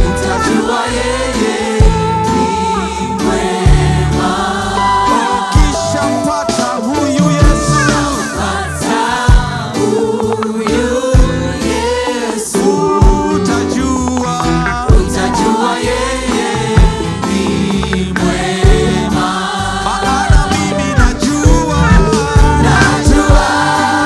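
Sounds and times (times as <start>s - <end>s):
band with bass and beat: 0.0s - 24.0s
group singing gospel song: 0.0s - 24.0s.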